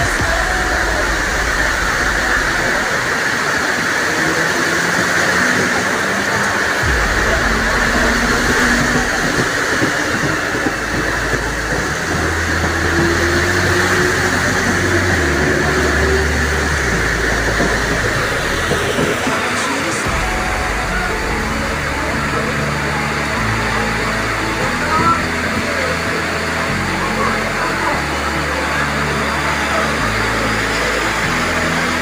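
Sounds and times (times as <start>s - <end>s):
train rushing past: 0.0s - 31.9s
rain hiss: 0.0s - 32.0s.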